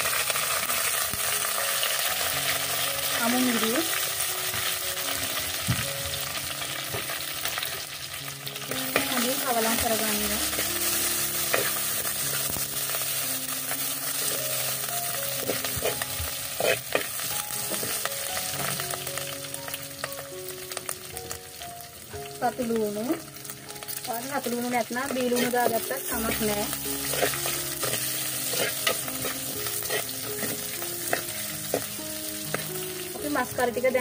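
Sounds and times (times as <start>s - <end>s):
oil sizzling in a clay pot: 0.0s - 34.0s.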